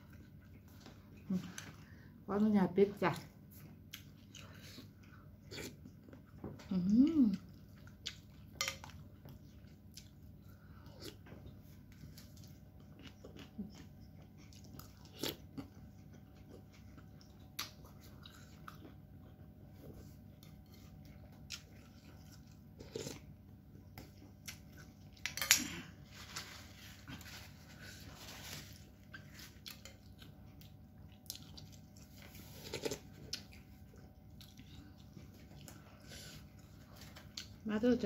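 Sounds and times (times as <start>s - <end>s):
chewing noodles: 3.1s - 25.7s, 26.6s - 37.7s.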